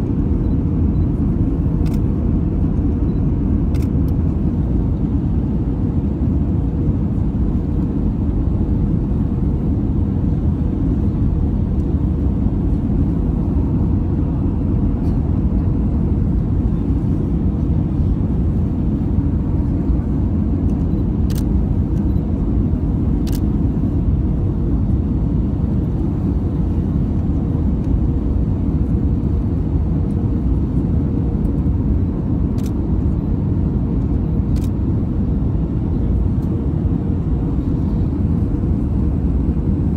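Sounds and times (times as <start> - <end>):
jet cabin airflow and engine rumble: 0.0 - 39.9
mid-pitched hum: 0.0 - 39.9.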